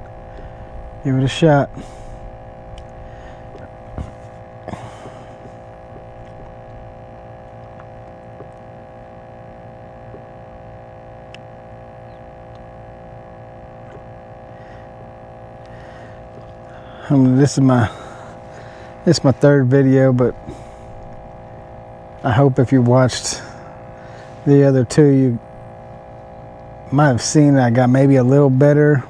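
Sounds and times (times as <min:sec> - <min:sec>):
steady multi-tone hum: 0:00.0 - 0:29.0.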